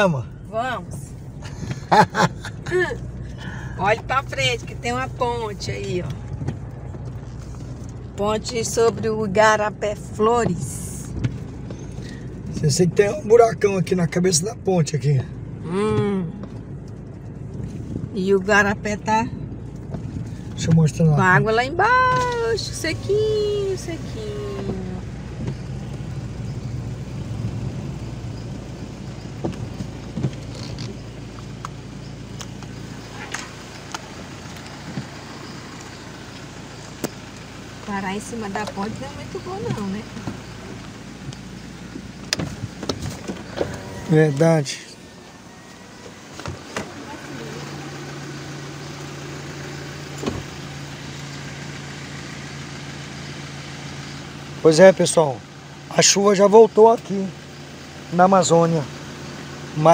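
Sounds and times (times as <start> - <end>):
car engine rumble from inside: 0.0 - 59.9.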